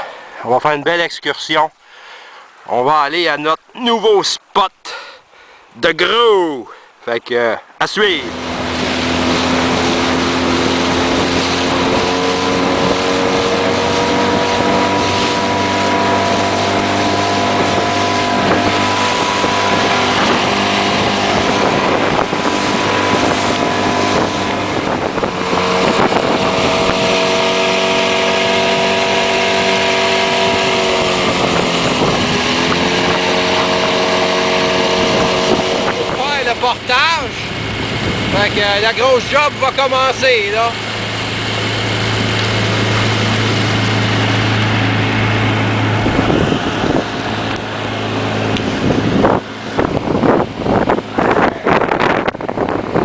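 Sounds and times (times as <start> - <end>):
water rushing: 0.0 - 53.0
motorboat engine cruising: 8.0 - 53.0
wind rushing: 8.2 - 39.7, 40.6 - 53.0.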